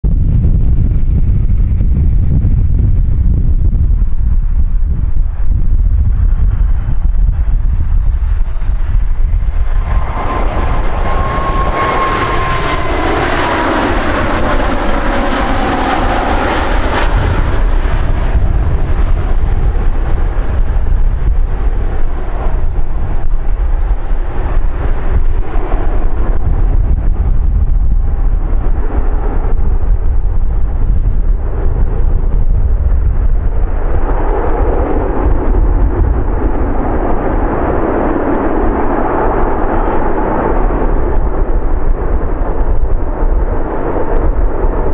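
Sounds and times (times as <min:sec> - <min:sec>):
jet engine rushing noise: 0:00.0 - 0:44.9
jet engine whine: 0:00.0 - 0:44.9
wind rumble on microphone: 0:00.0 - 0:44.9.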